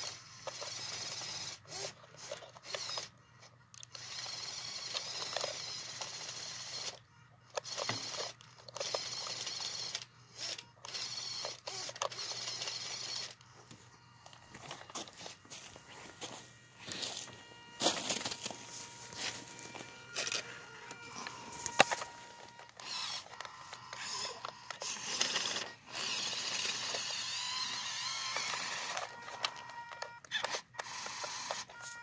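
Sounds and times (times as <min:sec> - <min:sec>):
toy truck electric motor whirring: 0:00.0 - 0:32.0.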